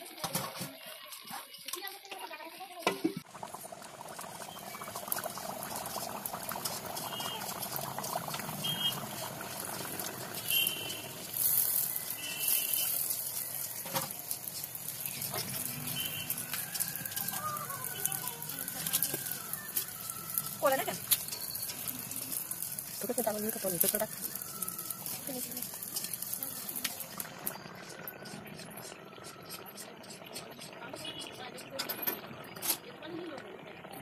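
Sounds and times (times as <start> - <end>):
batter deep-frying in sizzling oil: 0.0 - 34.0.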